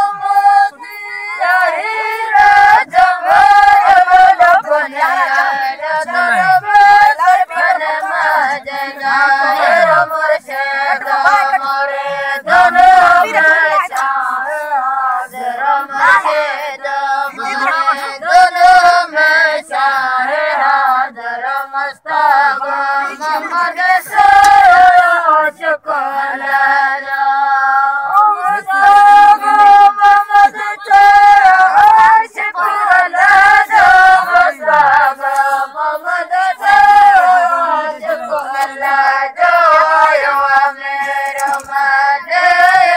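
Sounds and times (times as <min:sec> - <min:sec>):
women singing folk song: 0:00.0 - 0:42.9.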